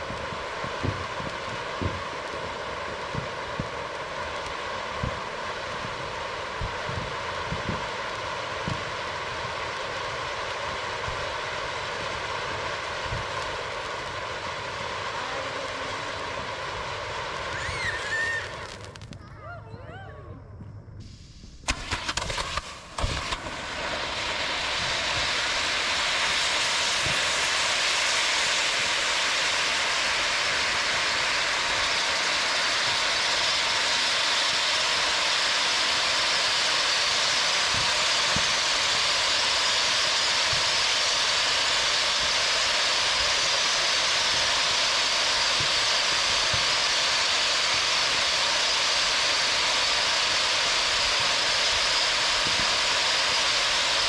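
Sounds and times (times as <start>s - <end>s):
firework fountain hissing: 0.0s - 20.4s, 21.0s - 54.0s.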